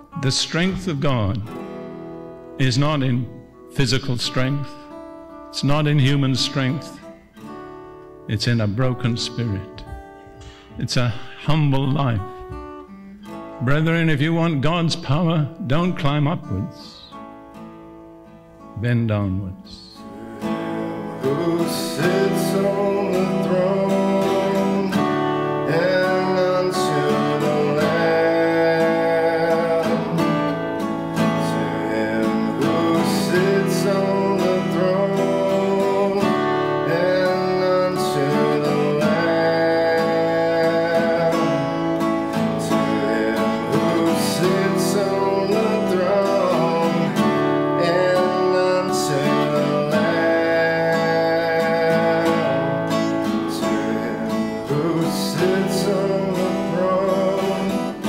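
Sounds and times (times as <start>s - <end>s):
acoustic guitar strumming: 0.0s - 58.0s
man singing: 2.6s - 4.9s, 5.5s - 7.1s, 13.6s - 17.2s, 18.8s - 58.0s.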